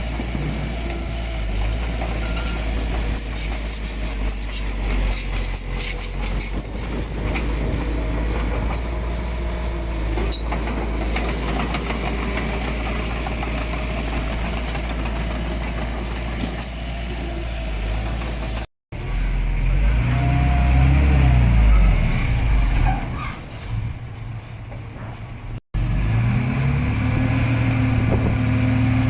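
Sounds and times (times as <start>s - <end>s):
diesel engine rumbling: 0.0s - 29.0s.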